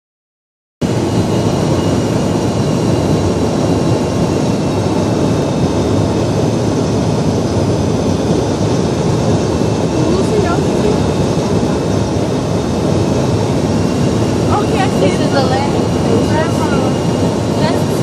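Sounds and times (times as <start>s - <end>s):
airplane cabin engine noise: 0.8s - 18.0s.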